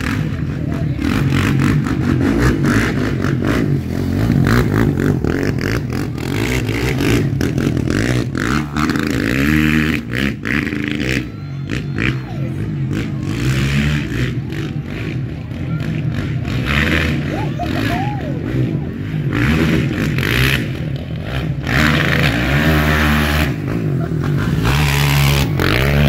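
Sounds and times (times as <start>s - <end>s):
quad engine revving: 0.0s - 26.0s.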